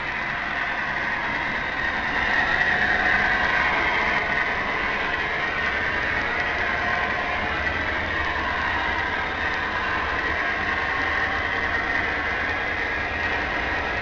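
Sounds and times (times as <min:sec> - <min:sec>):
model train diesel engine sound: 0:00.0 - 0:14.0
model train rolling on track: 0:00.0 - 0:14.0.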